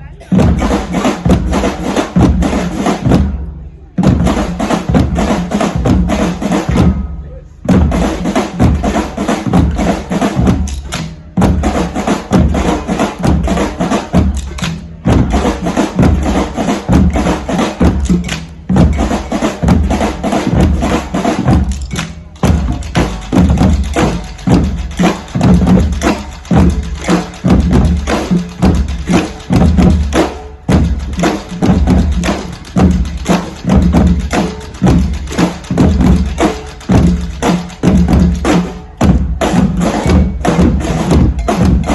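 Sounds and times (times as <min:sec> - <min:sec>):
deep bass drum beats: 0:00.0 - 0:41.9
drumming group playing: 0:00.0 - 0:41.9.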